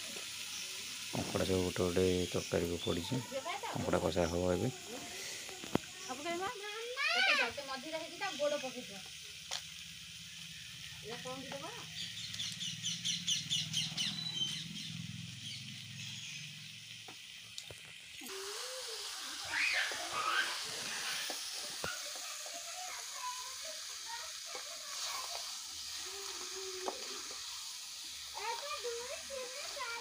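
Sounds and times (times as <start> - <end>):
curry sizzling in a pan: 0.0 - 30.0.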